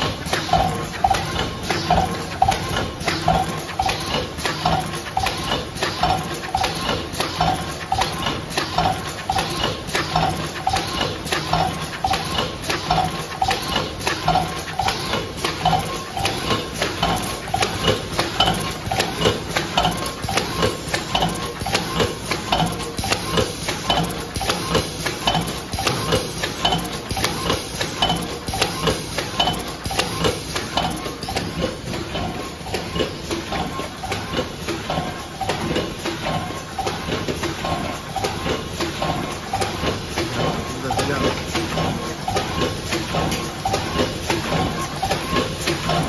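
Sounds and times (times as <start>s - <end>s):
machine clacking and knocking: 0.0s - 46.0s.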